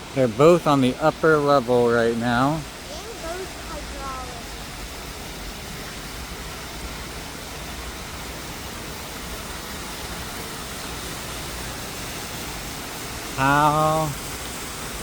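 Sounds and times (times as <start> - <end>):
indoor waterfall rushing: 0.0 - 15.0.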